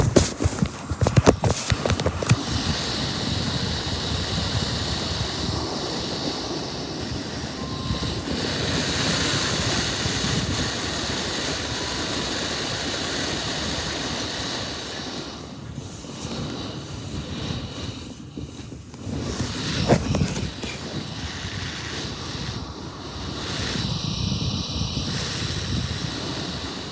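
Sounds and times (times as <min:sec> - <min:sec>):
air rumble on microphone: 0:00.0 - 0:26.9
electric fan blowing: 0:00.0 - 0:26.9.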